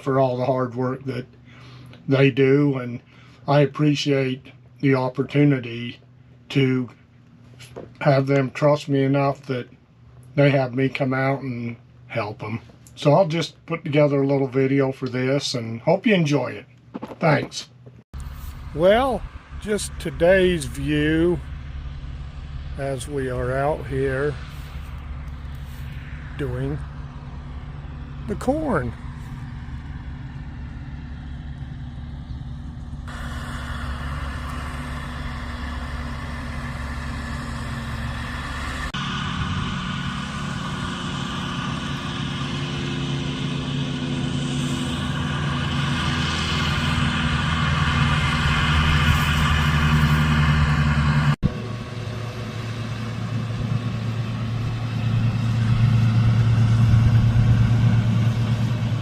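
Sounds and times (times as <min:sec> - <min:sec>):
diesel machinery engine droning: 0:00.0 - 0:15.8, 0:18.2 - 0:59.0.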